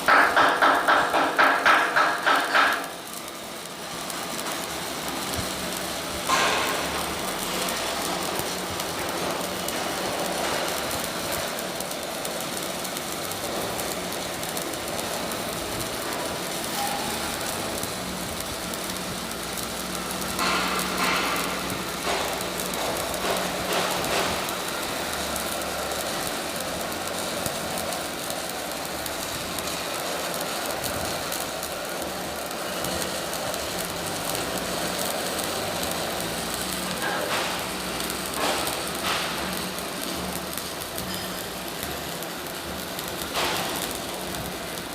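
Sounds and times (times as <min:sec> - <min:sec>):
arc welding crackling: 0:00.0 - 0:44.9.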